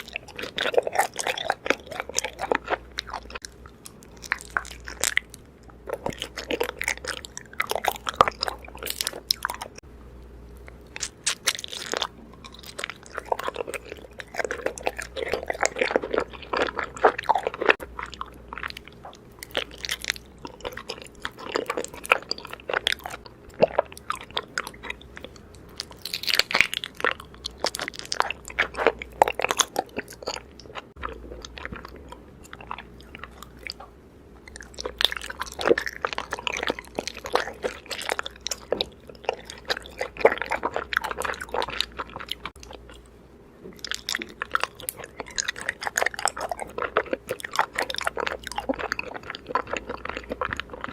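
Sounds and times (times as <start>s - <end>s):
honeycomb being chewed: 0.0s - 9.9s, 10.5s - 50.9s.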